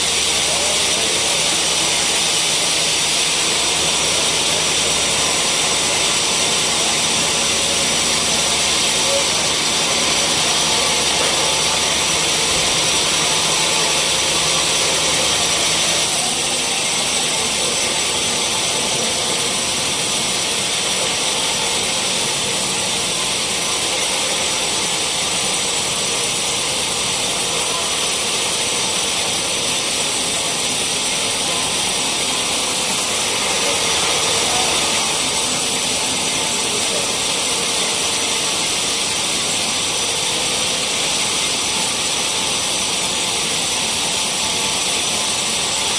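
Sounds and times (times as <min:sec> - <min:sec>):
sawmill saw hissing: 0:00.0 - 0:45.9.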